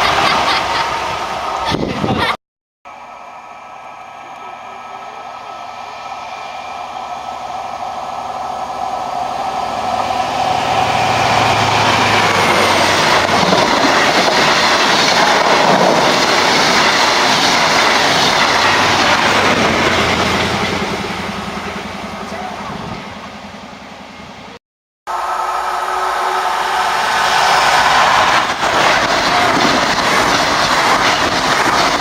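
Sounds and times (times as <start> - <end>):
train passing close by: 0.0 - 32.0.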